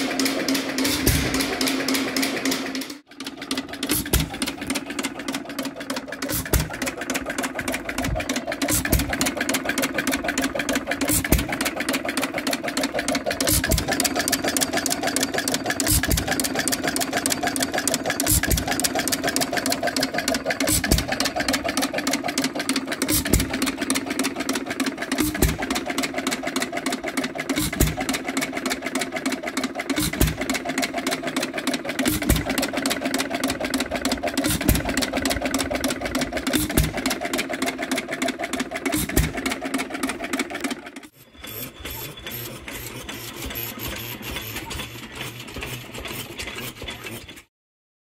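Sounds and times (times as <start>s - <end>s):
stationary engine clattering: 0.0s - 47.5s.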